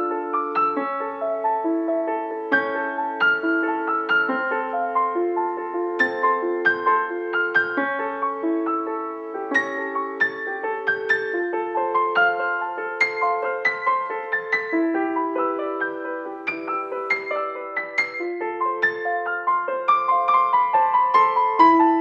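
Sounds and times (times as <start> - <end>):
slow gentle solo piano: 0.0 - 22.0.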